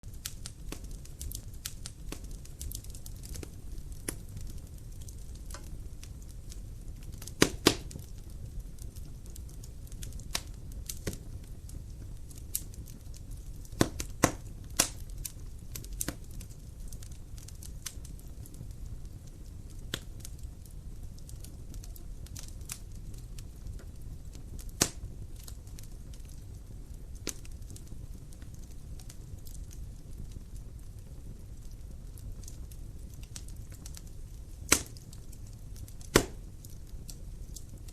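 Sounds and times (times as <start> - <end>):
firewood crackling and popping: 0.0 - 37.9
low fire rumble: 0.0 - 37.9.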